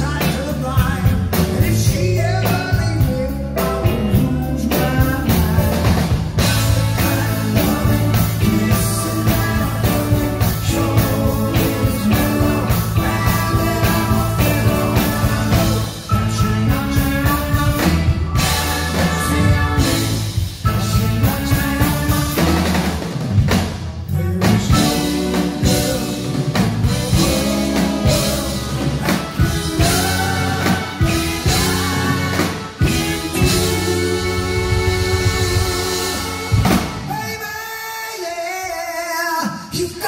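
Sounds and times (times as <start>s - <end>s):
trombone: 0.0s - 23.5s, 24.2s - 37.3s
live band with horns: 0.0s - 40.0s.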